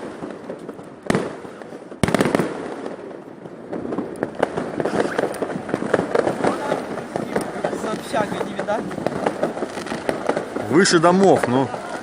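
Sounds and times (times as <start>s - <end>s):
fireworks loud bangs: 0.0s - 12.0s
rapid firework pops: 0.0s - 12.0s.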